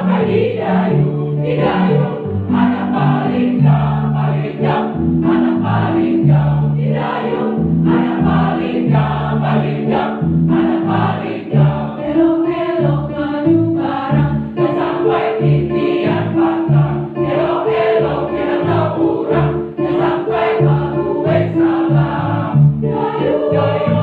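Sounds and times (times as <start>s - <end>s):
choir singing in parts: 0.0s - 24.0s.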